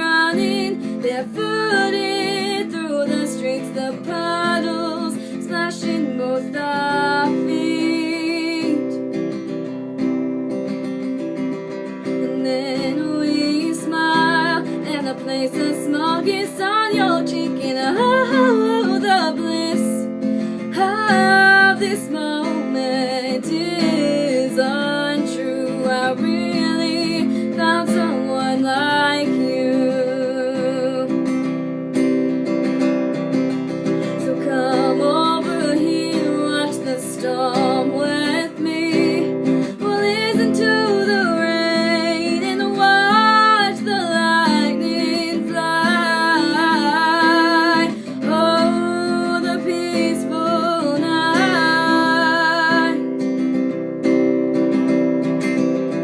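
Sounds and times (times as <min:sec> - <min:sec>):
woman singing: 0:00.0 - 0:09.8, 0:10.8 - 0:31.7, 0:33.4 - 0:53.7
acoustic guitar strummed: 0:00.0 - 0:56.0.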